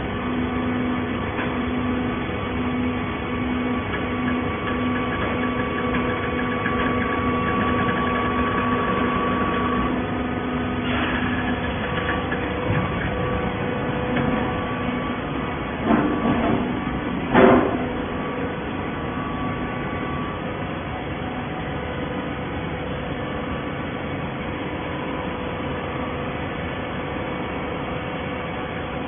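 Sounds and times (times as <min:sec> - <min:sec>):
baler machine hum and whine: 0:00.0 - 0:29.0.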